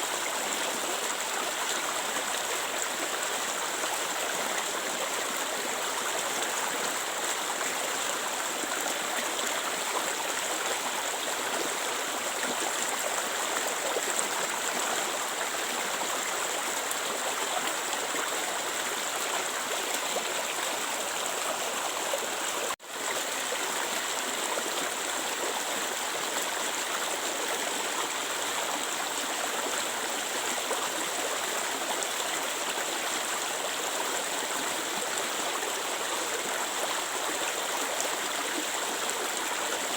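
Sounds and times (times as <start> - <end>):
water flowing in stream: 0.0 - 39.9.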